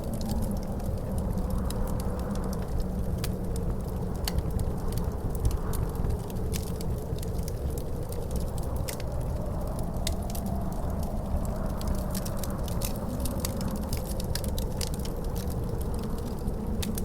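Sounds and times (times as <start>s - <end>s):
faint wind howl: 0.0s - 17.0s
low rumble of wind: 0.0s - 17.0s
wood fire crackling and popping: 0.0s - 17.0s.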